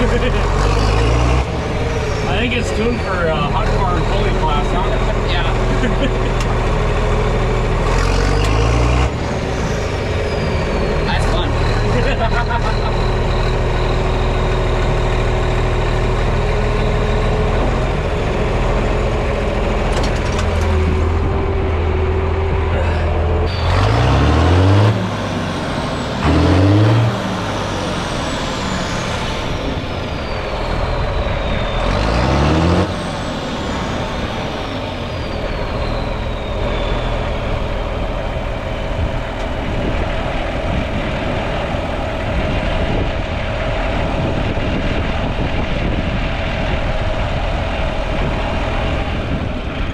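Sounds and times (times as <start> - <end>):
tractor engine revving: 0.0 - 49.9.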